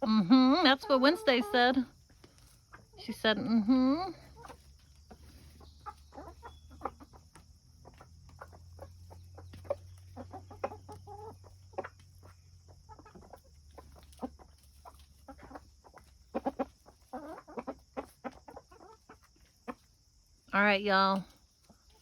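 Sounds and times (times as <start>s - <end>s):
chickens clucking softly: 0.0s - 20.5s, 21.1s - 22.0s.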